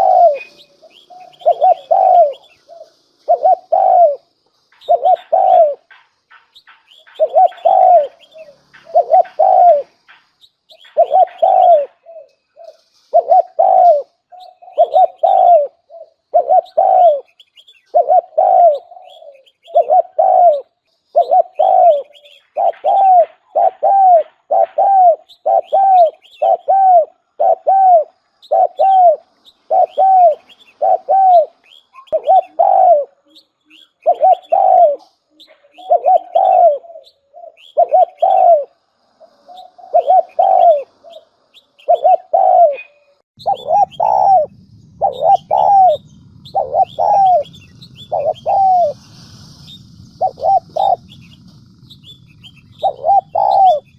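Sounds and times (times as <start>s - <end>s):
dove cooing: 0.0s - 49.0s, 49.8s - 53.9s.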